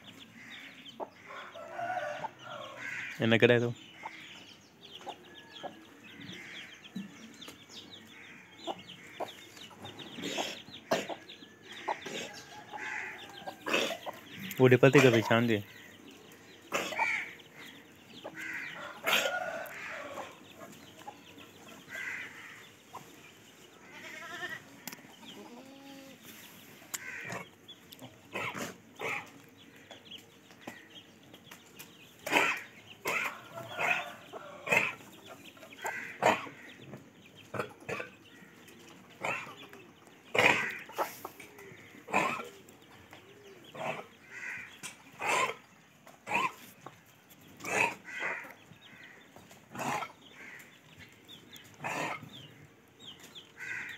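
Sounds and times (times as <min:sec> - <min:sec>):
farm animal calls: 0:08.1 - 0:23.1, 0:23.7 - 0:30.8, 0:32.2 - 0:53.9.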